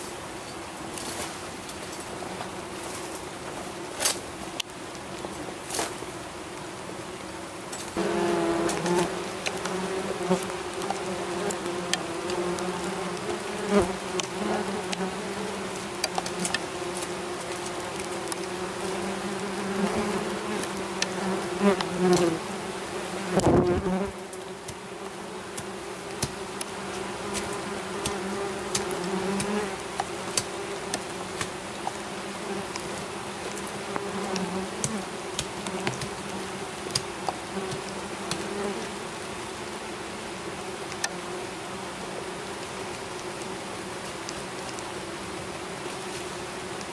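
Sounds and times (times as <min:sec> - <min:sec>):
wasps buzzing: 0:07.3 - 0:46.9.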